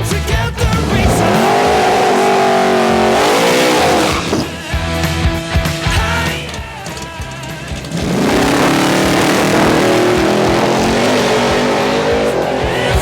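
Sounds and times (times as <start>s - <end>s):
car engine accelerating: 0.0s - 13.0s
rock music: 0.0s - 13.0s.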